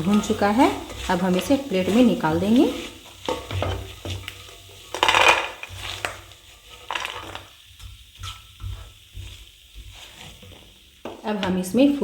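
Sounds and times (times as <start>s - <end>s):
spoon scraping in a pan: 0.0s - 11.2s.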